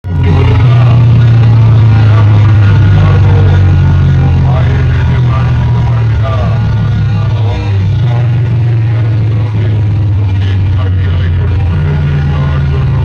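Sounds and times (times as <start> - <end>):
loud bass-heavy music from speakers: 0.0 - 13.0.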